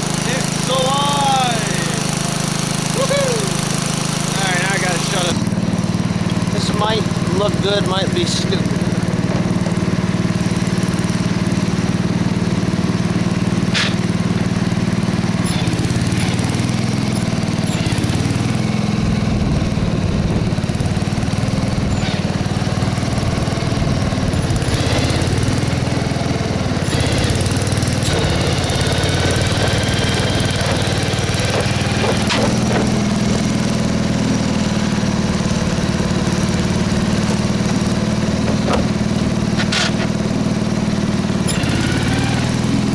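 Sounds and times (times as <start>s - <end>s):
lawn tractor engine running: 0.0s - 42.9s.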